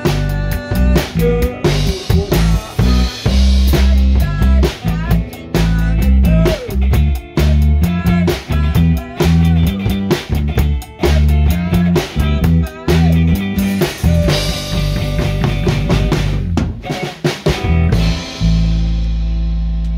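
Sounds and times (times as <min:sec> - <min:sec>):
man singing: 0:00.0 - 0:16.2
drum beat: 0:00.0 - 0:19.1.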